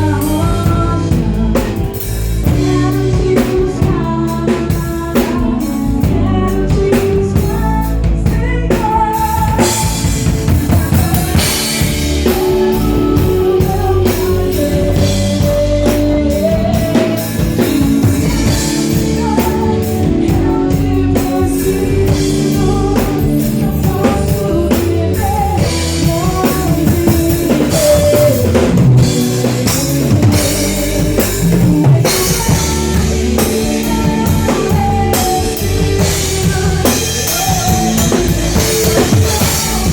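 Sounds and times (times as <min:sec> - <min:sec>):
drum kit beat with rimshots: 0:00.0 - 0:39.9
live gospel band playing: 0:00.0 - 0:39.9.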